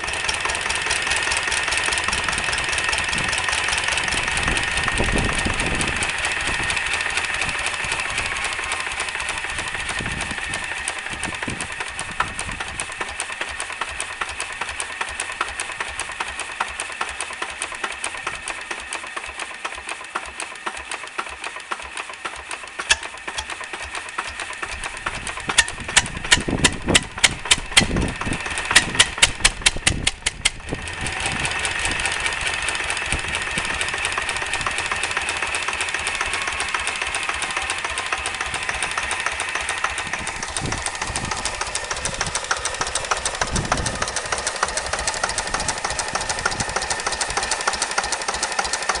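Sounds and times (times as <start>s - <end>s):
engine whine: 0.0s - 16.9s, 22.6s - 49.0s
stationary engine knocking: 0.0s - 49.0s.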